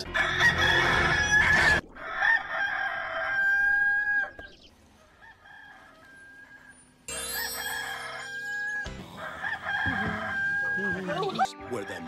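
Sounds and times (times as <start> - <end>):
rooster crowing: 0.0 - 4.4, 5.0 - 11.2.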